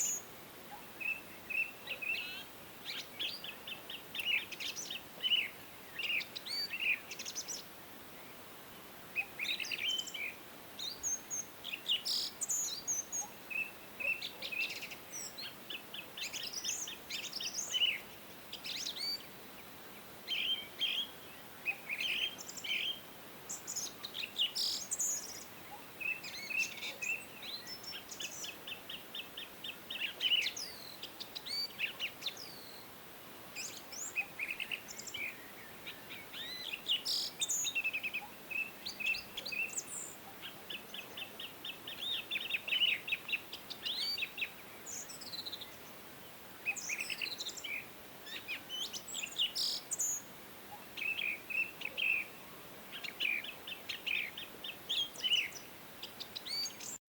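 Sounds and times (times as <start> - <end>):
faint steady hiss: 0.0 - 57.0
songbirds singing and chirping: 0.0 - 57.0.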